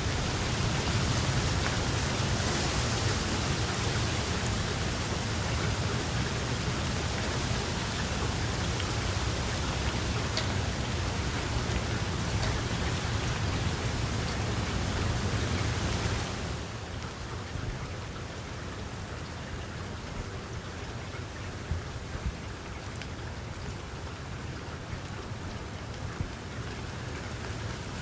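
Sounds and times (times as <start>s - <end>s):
distinct raindrops: 0.0s - 28.0s
steady rain falling: 0.0s - 28.0s.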